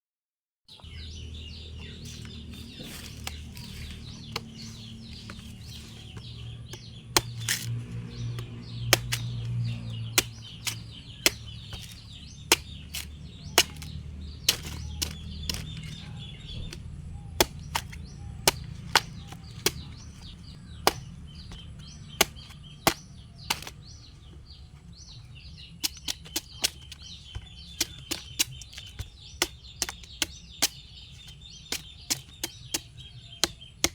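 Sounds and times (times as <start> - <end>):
machete chopping coconut: 1.8 - 24.2, 25.6 - 33.9.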